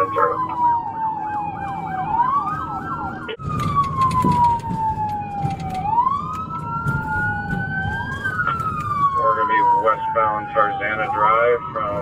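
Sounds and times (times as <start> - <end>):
engine and road noise: 0.0 - 12.0
police siren yelp and wail: 0.0 - 12.0
second siren wailing: 0.0 - 12.0.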